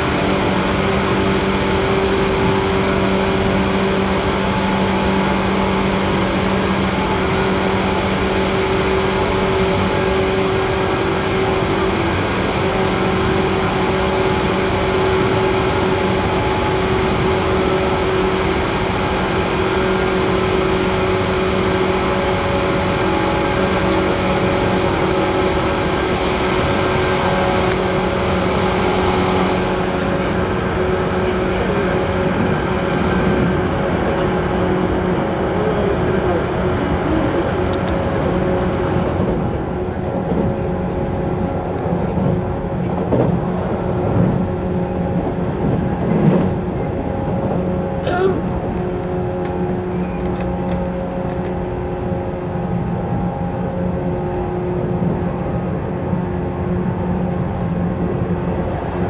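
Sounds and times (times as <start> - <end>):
steady low hum: 0.0 - 54.1
electric train rumbling: 0.0 - 59.0.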